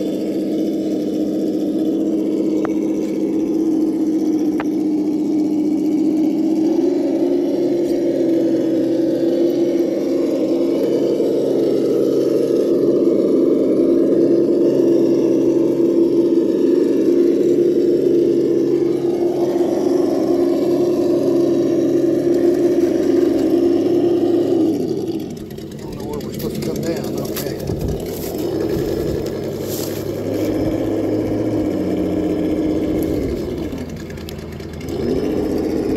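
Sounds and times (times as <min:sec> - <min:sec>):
toy truck electric motor whining: 0:00.0 - 0:35.9.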